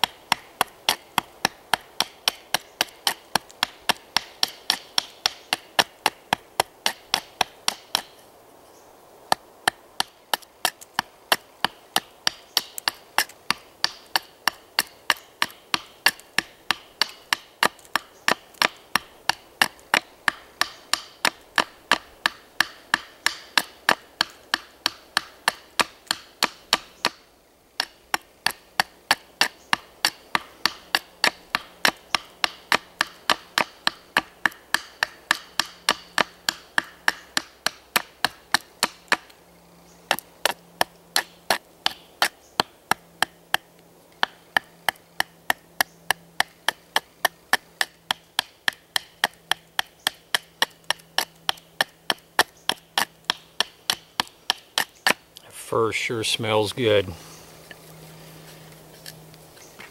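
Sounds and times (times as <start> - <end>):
knife chopping wood: 0.0 - 8.1, 9.3 - 27.2, 27.8 - 39.3, 40.1 - 55.2.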